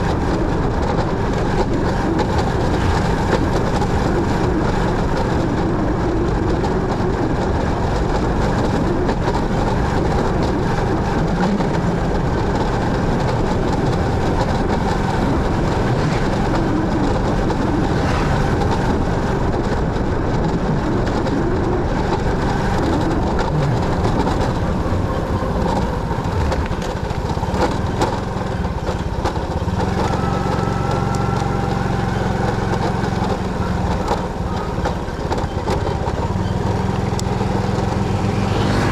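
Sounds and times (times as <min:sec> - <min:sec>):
low engine hum with high tone: 0:00.0 - 0:38.9
motorcycle engine running: 0:00.0 - 0:38.9
road noise: 0:00.0 - 0:38.9.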